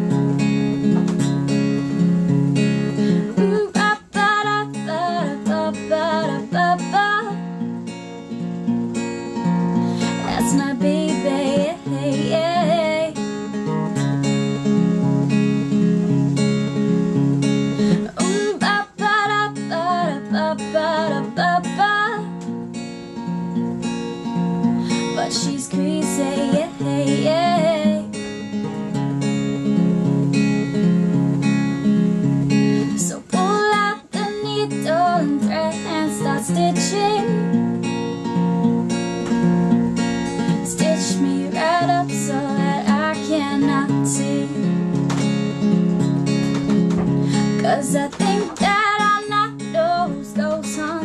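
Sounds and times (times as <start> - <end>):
strummed acoustic guitar music: 0.0 - 51.0.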